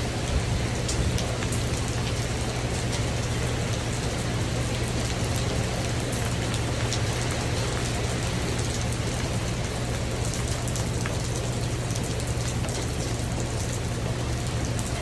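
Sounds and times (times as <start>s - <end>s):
rain on a tin roof: 0.0s - 15.0s
sharp individual raindrops: 0.0s - 15.0s.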